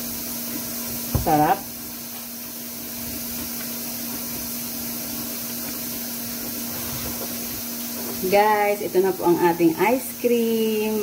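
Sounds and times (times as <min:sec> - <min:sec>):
motor running with low hum: 0:00.0 - 0:11.0.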